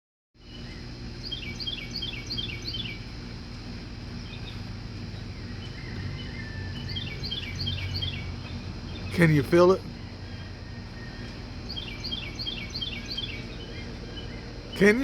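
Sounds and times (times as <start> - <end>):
songbird chirping: 0.4 - 15.0
steady low hum: 0.4 - 15.0.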